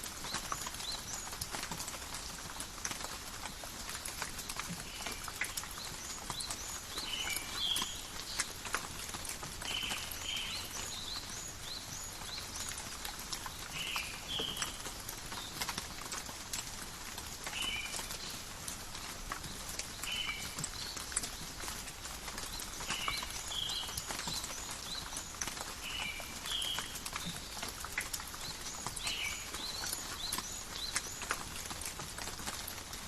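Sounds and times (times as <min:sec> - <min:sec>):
rain pattering in a forest: 0:00.0 - 0:33.0.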